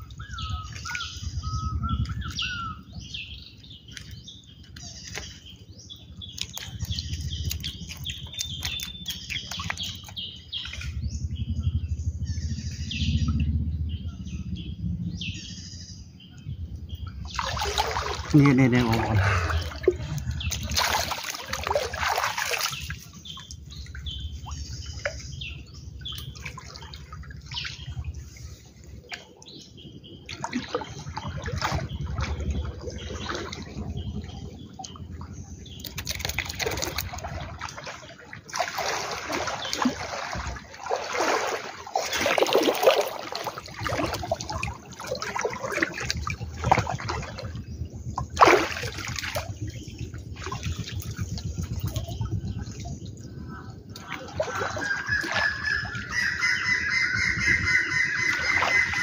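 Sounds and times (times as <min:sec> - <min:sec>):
water sloshing and splashing: 0:00.0 - 0:11.4, 0:16.7 - 0:59.0.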